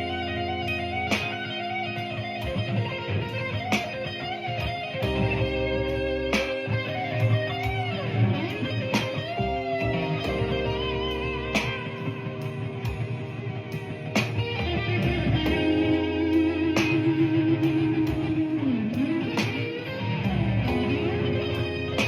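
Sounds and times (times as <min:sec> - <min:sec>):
bass line: 0:00.0 - 0:03.9, 0:04.7 - 0:22.0
blues electric guitar lead: 0:00.0 - 0:22.0
held chords: 0:00.0 - 0:22.0.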